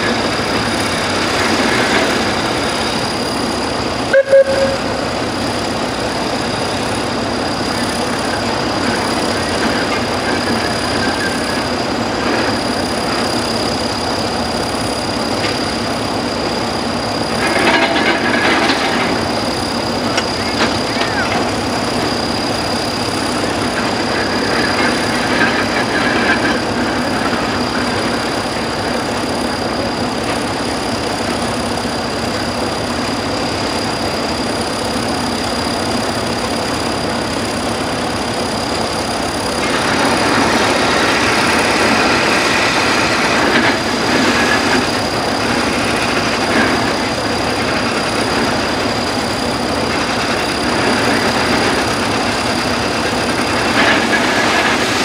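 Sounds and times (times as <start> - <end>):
steam shovel engine running: 0.0 - 55.0.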